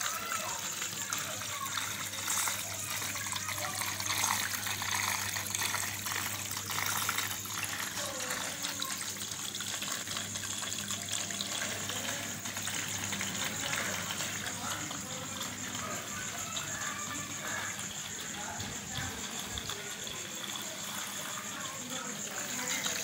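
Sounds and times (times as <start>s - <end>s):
pump humming: 0.0s - 23.0s
water gushing and splashing: 0.0s - 23.0s.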